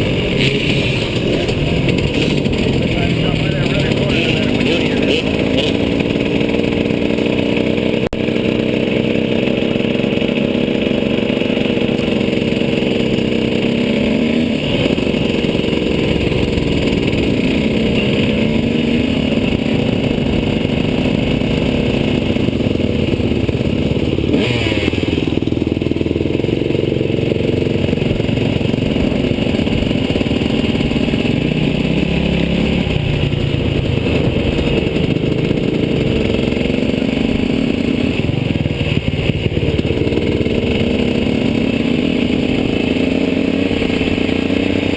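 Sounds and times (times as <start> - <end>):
two-stroke motocross engine revving: 0.0 - 44.9.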